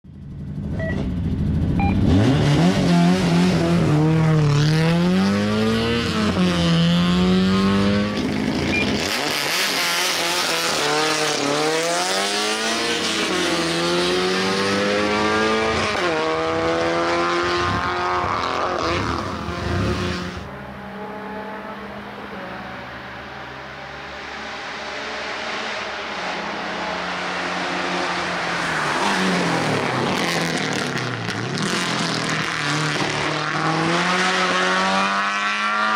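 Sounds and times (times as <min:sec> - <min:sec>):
car engine revving and accelerating: 0:01.6 - 0:35.9.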